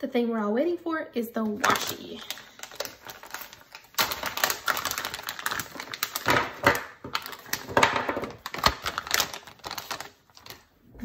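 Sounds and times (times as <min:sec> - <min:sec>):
plastic packaging crinkling: 0:01.6 - 0:10.9.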